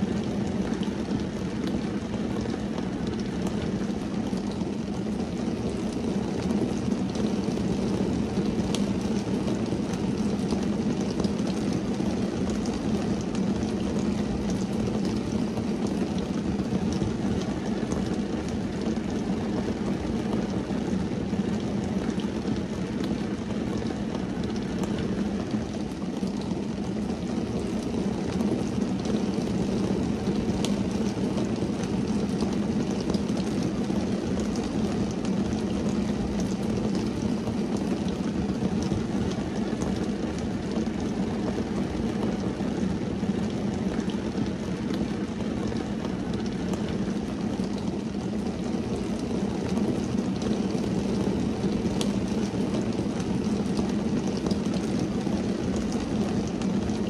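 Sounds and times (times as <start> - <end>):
rain on car windshield: 0.0 - 57.0.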